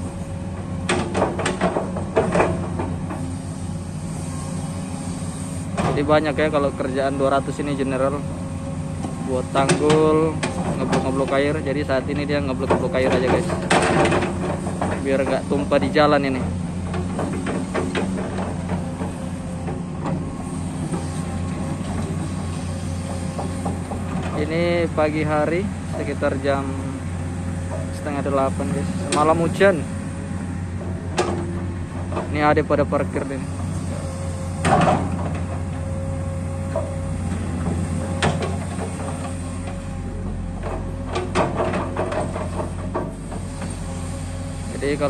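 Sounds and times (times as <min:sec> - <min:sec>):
excavator diesel engine droning: 0:00.0 - 0:45.0.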